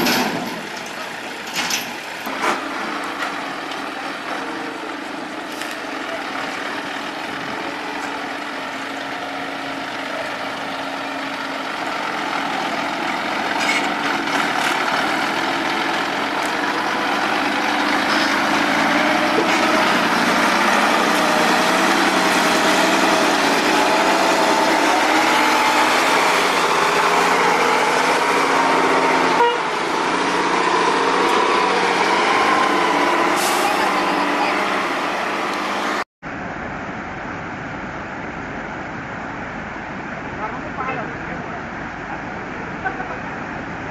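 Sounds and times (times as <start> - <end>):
truck diesel engine under load: 0.0 - 43.9.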